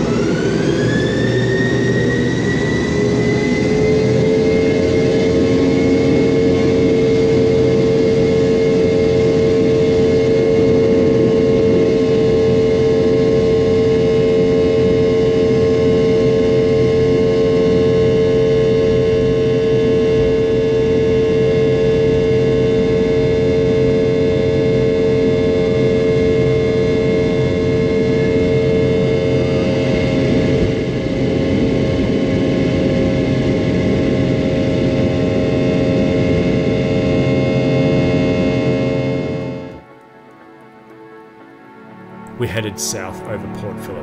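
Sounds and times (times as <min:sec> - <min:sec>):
jet engine drone in cabin: 0:00.0 - 0:44.0.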